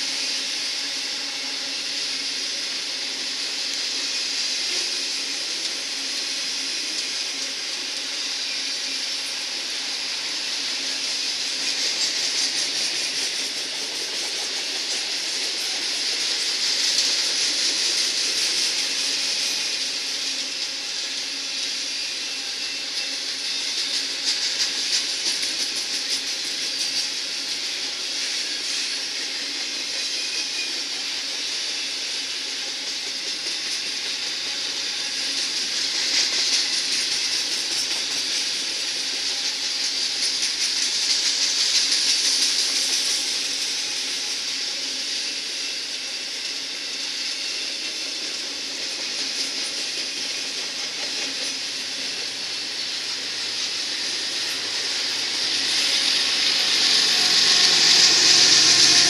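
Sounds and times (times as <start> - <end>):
steel wheels hissing on rail: 0.0 - 59.0.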